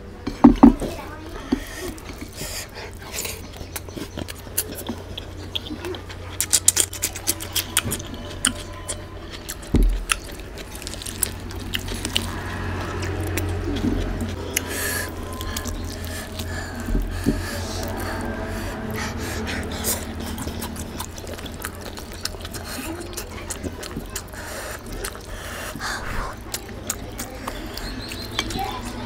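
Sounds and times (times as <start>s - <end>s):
chewing: 0.8s - 29.0s
hands squishing wet food: 0.9s - 29.0s.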